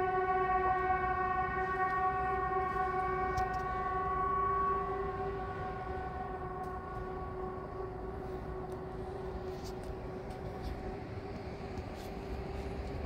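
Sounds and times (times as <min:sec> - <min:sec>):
warning siren steady note: 0:00.0 - 0:13.0.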